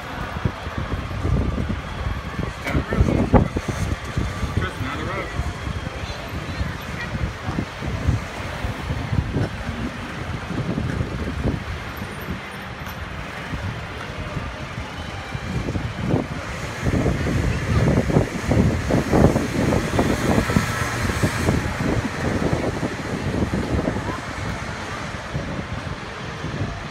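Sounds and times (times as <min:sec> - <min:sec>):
traffic engine rumble: 0:00.0 - 0:26.9.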